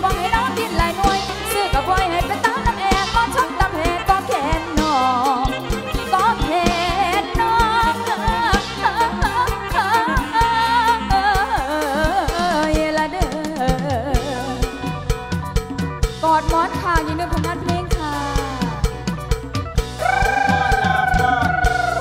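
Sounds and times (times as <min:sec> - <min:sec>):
woman singing into microphone: 0:00.0 - 0:14.8, 0:16.2 - 0:19.0, 0:20.0 - 0:22.0
band with steady drum beat: 0:00.0 - 0:22.0.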